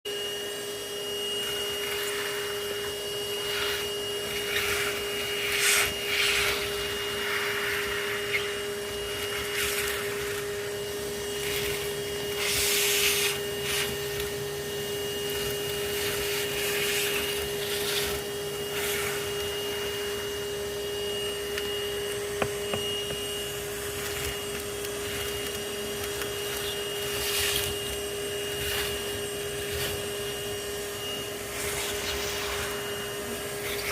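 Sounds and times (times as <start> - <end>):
vacuum whining: 0.0 - 33.9
rushing air in hose: 1.2 - 33.9.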